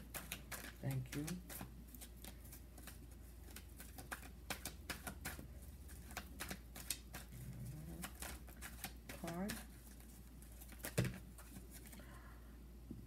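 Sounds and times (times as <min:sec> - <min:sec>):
cards being shuffled: 0:00.0 - 0:12.0
low steady hum: 0:00.0 - 0:13.0.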